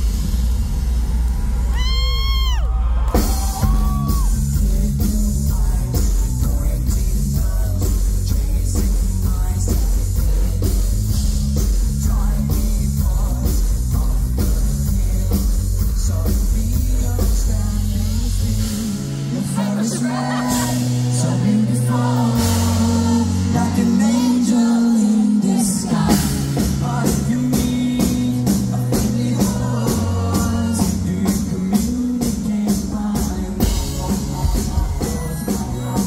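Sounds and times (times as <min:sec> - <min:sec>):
heavy bass: 0:00.0 - 0:36.0
live band playing loud: 0:00.0 - 0:36.0
steady drum beat: 0:00.0 - 0:36.0
singing and shouted vocals: 0:01.4 - 0:36.0.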